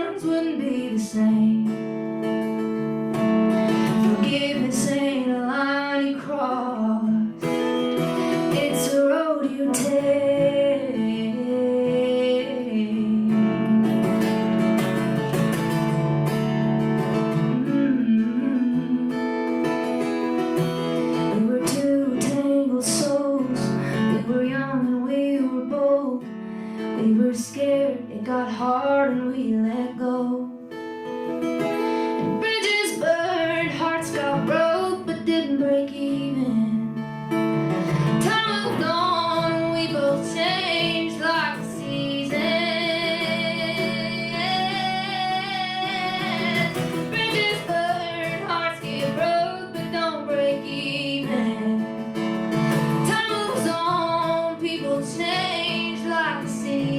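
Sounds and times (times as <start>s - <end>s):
acoustic guitar playing: 0.0s - 56.9s.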